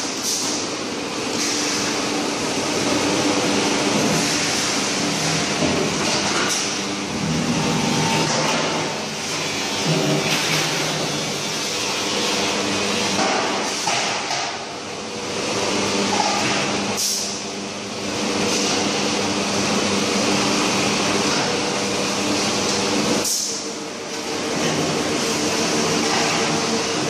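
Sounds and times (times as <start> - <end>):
press machinery humming: 0.0 - 27.0.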